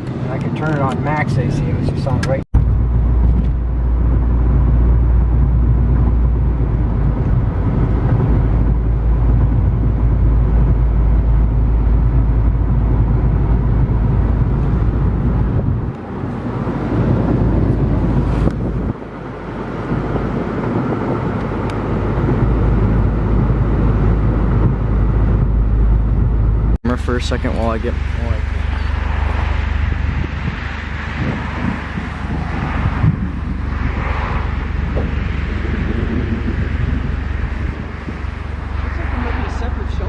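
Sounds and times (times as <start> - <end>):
car cabin low rumble: 0.0 - 40.0.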